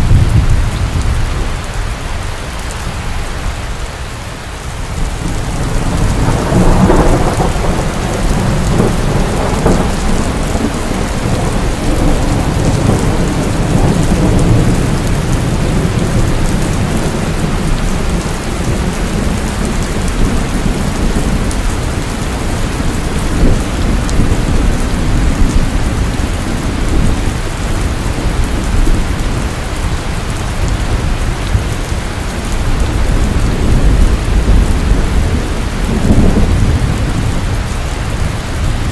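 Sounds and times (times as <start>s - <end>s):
thunder rumbling: 0.0s - 3.6s, 4.8s - 38.9s
heavy rain: 0.0s - 38.9s.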